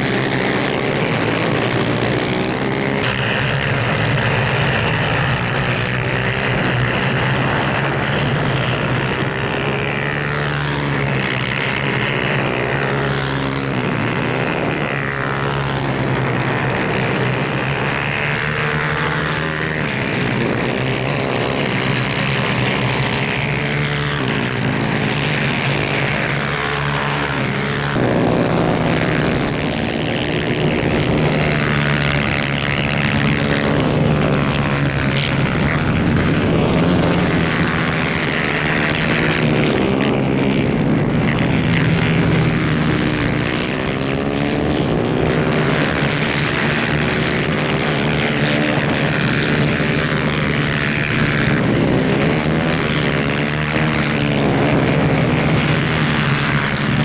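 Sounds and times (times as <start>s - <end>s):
kart engines racing: 0.0s - 57.0s.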